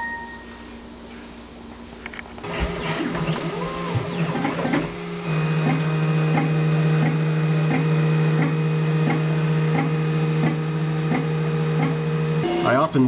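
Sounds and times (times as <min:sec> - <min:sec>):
printer motor hum: 0:02.4 - 0:13.0.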